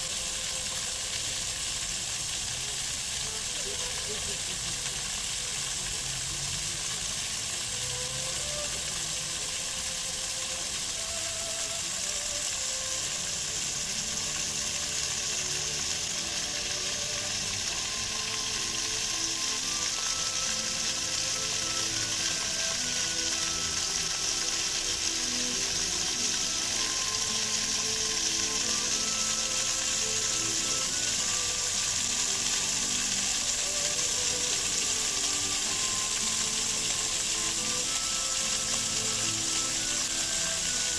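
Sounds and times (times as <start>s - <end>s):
fountain water spraying: 0.0s - 40.9s.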